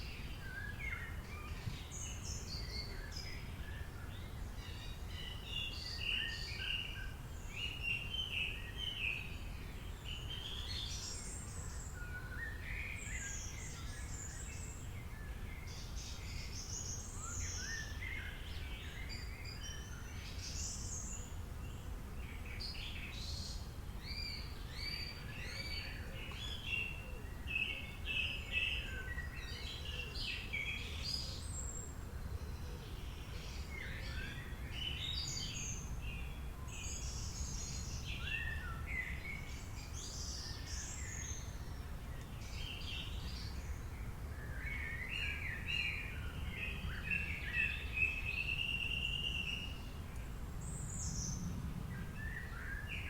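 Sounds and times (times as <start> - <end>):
songbirds singing and chirping: 0.0 - 53.0.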